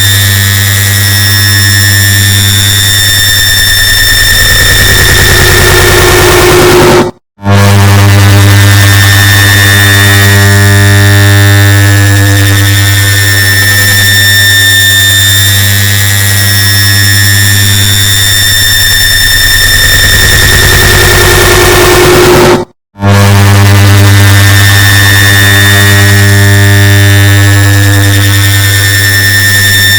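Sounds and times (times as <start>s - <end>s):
high whine: 0.0s - 29.9s.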